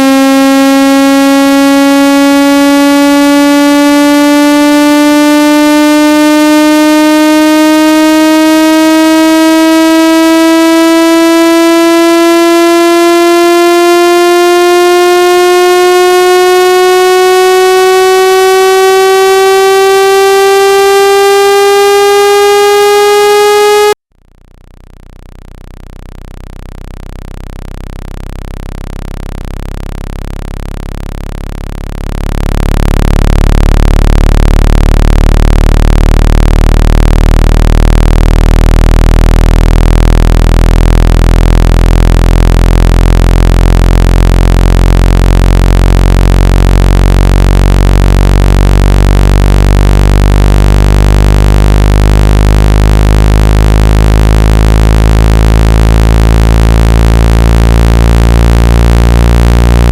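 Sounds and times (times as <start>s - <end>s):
low-pitched electronic tones: 0.0s - 59.9s.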